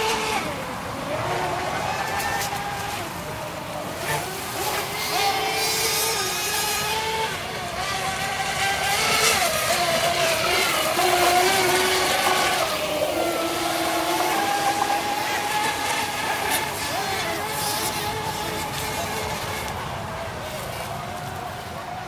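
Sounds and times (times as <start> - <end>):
model boat engine buzzing: 0.0 - 22.0.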